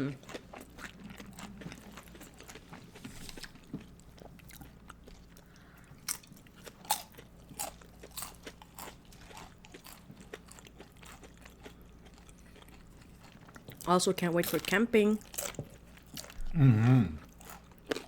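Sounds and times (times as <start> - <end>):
tortilla chips crunching: 0.2 - 16.5, 17.3 - 18.0.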